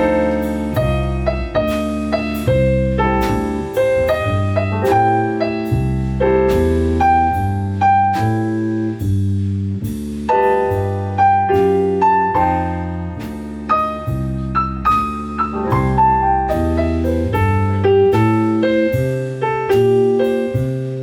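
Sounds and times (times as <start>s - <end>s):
piano playing: 0.0s - 21.0s.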